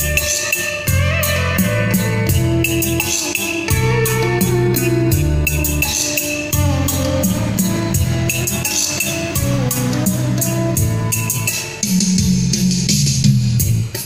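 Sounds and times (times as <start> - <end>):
music with drums bass and guitar: 0.0 - 14.0.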